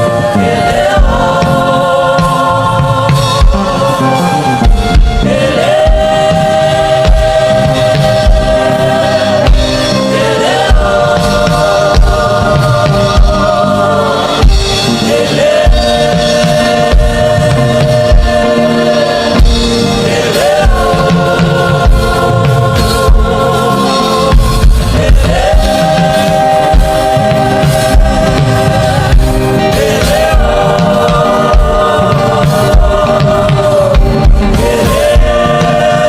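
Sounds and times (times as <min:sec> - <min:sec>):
band with low drum beat: 0:00.0 - 0:36.0
choir singing held notes: 0:00.0 - 0:36.0.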